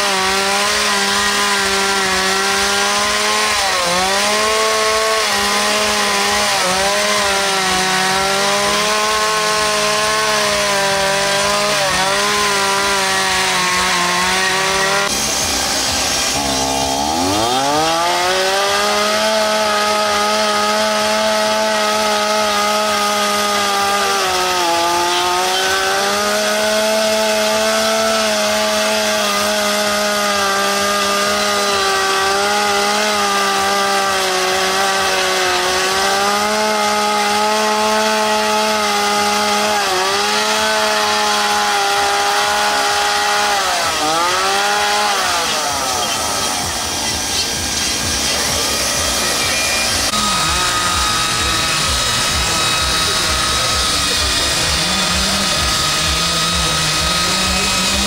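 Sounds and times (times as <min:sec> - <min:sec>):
chainsaw revving while carving wood: 0:00.0 - 0:58.0.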